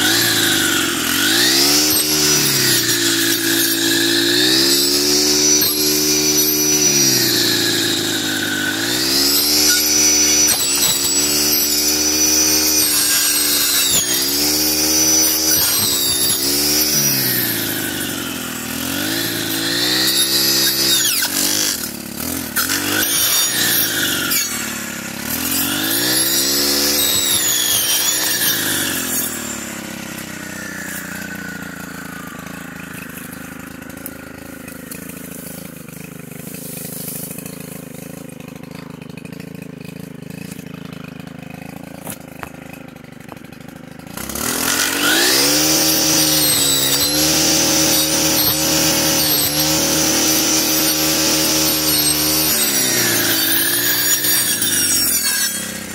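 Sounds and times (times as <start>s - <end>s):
blade cutting brush: 0.0s - 55.9s
brush cutter engine revving: 0.0s - 55.9s.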